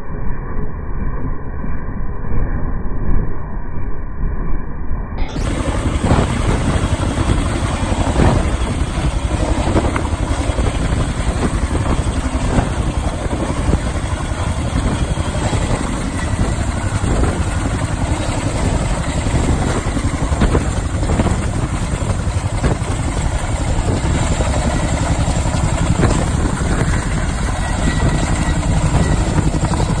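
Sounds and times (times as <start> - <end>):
helicopter rotors and engines: 5.2 - 30.0.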